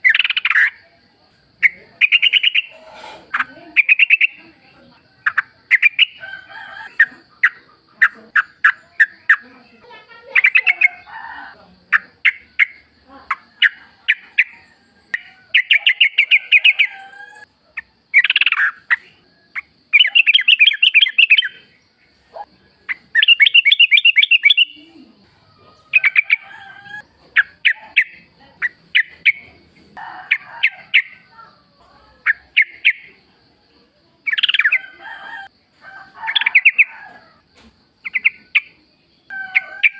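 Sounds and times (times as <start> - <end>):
bulbuls chattering and trilling: 0.0 - 39.9.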